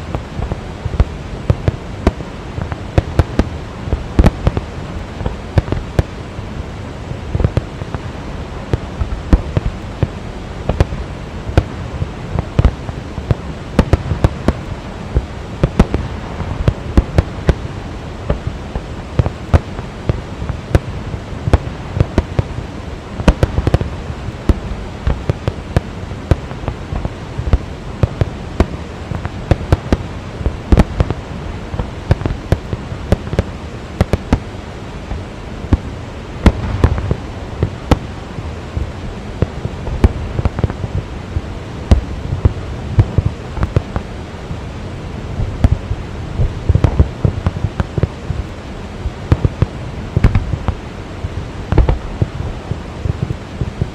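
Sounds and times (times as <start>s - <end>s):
fireworks bangs and crackles: 0.0s - 44.7s, 45.3s - 53.9s
steady rushing noise: 0.0s - 53.9s.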